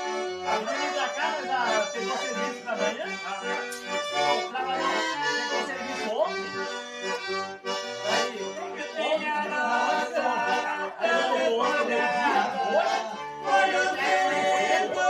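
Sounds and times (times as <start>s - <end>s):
accordion music: 0.0s - 15.0s.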